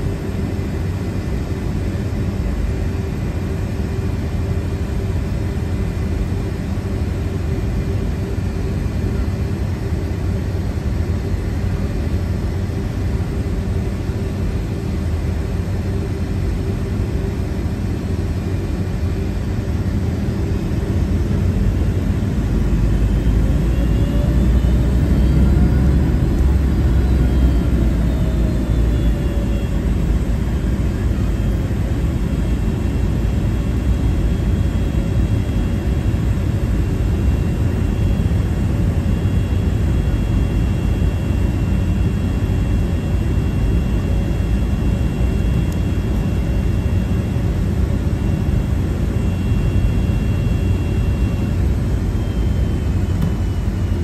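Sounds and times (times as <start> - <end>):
faint jet engine whine: 0.0 - 54.0
jet engine low rumble: 0.0 - 54.0.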